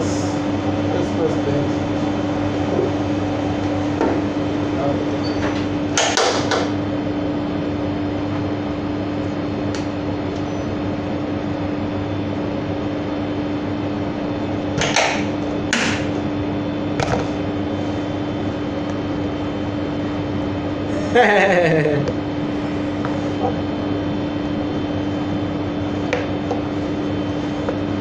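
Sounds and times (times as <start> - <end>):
batch freezer humming: 0.0 - 28.0.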